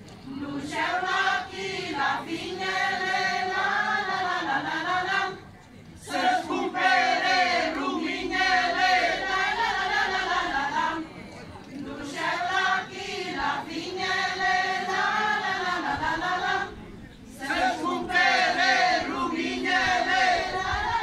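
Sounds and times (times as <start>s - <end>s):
women singing folk song: 0.2s - 11.1s, 11.7s - 16.8s, 17.4s - 21.0s.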